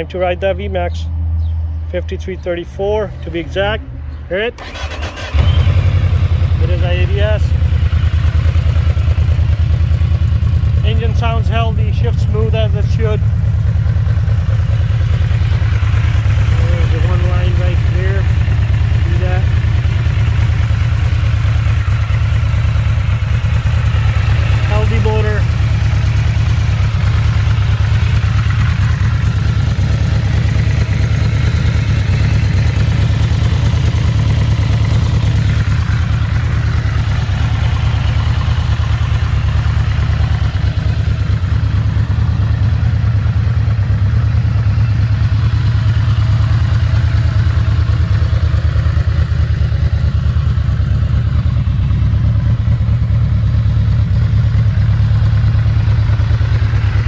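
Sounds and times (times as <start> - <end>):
motorcycle engine idling: 2.2 - 57.0.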